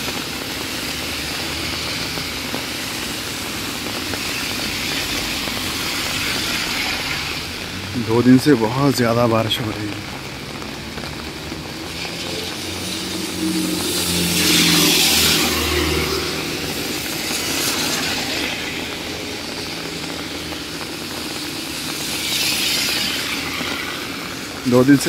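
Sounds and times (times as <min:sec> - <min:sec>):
low car engine hum: 0:00.0 - 0:25.0
rain: 0:00.0 - 0:25.0
tyre hiss on wet road: 0:00.0 - 0:25.0.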